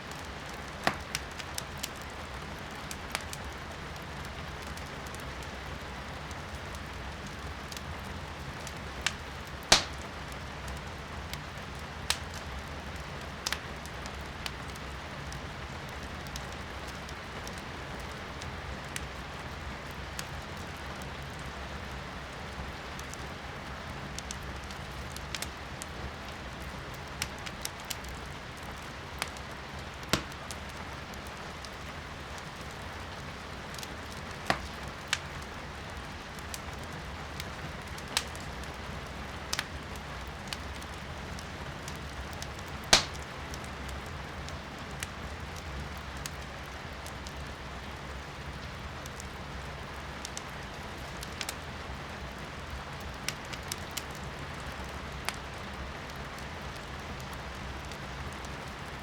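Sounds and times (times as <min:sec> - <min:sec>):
firewood crackling: 0:00.0 - 0:22.0, 0:22.7 - 0:59.0
rain heard from indoors: 0:00.0 - 0:59.0.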